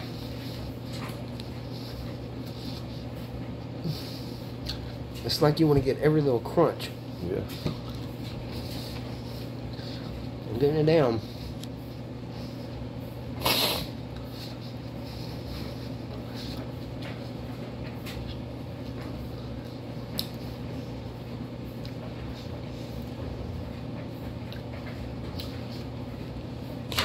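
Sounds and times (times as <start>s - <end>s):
man chewing raw onion: 0.0s - 5.2s, 7.0s - 10.5s, 11.4s - 27.0s
low room hum: 0.0s - 27.0s.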